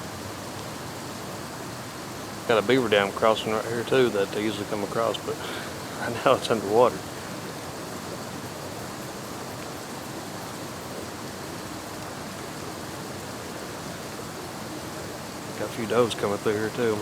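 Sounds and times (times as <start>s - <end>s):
hiss of flowing water: 0.0s - 17.0s.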